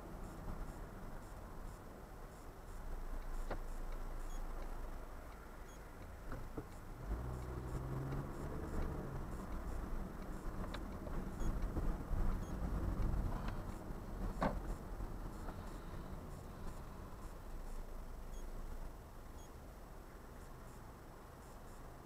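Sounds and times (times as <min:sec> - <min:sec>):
car road and engine noise: 0:00.0 - 0:22.0
faint regular ticking: 0:00.2 - 0:19.7, 0:20.3 - 0:22.0.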